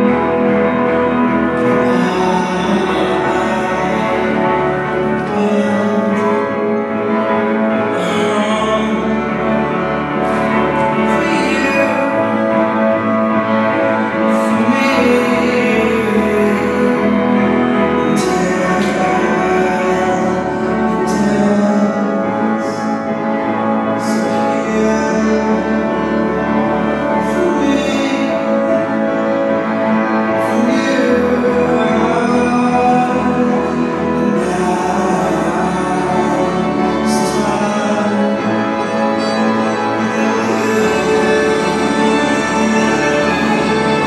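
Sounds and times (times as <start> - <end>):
slow music with sustained notes: 0.0 - 44.0.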